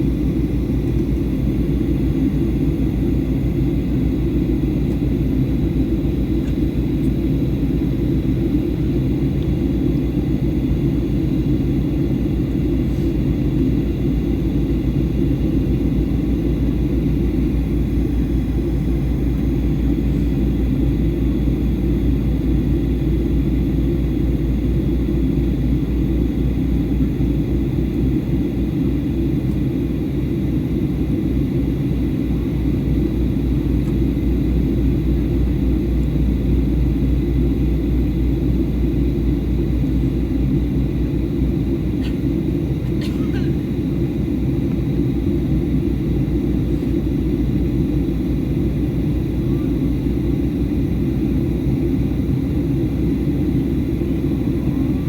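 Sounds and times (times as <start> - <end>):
aircraft cabin engine roar: 0.0 - 55.0.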